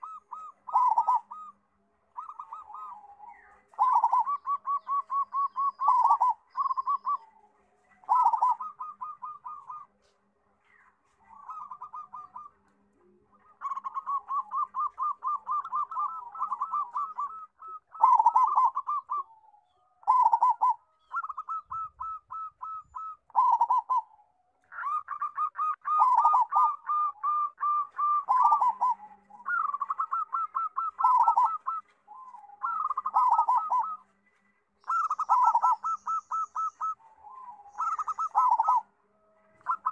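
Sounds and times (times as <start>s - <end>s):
dove staccato cooing: 0.0s - 39.9s.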